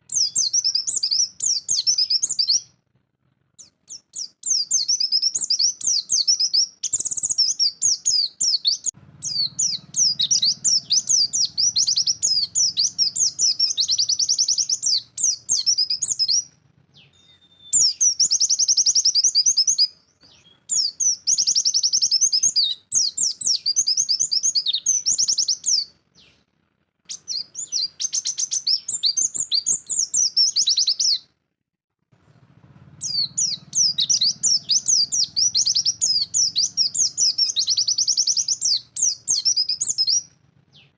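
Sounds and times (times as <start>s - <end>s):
bird singing high chirps and trills: 0.0s - 2.8s, 3.5s - 26.4s, 27.1s - 31.3s, 33.0s - 40.9s.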